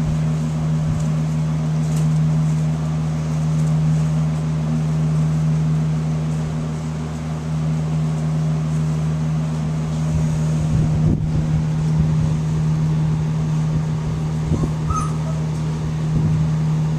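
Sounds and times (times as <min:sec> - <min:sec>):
low mechanical hum: 0:00.0 - 0:16.9.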